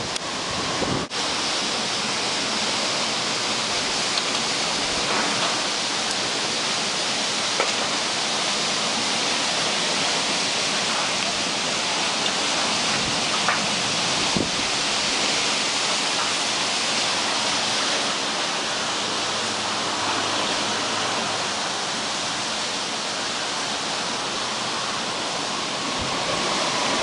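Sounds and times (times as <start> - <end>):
heavy downpour: 0.0 - 27.0
wind: 0.0 - 27.0.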